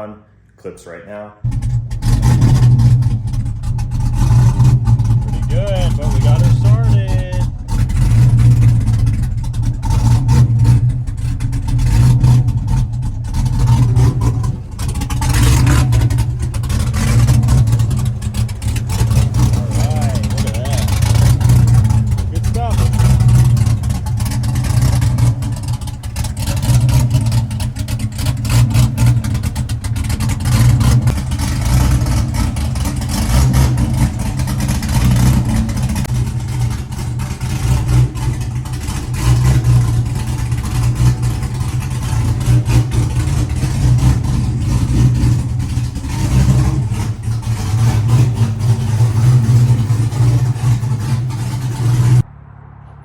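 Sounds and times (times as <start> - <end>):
car engine idling: 1.4 - 53.0.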